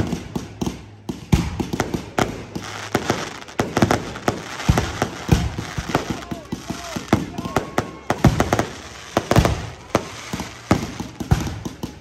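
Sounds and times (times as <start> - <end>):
deep firework booms: 0.0 - 12.0
fireworks bursting and crackling: 0.0 - 12.0.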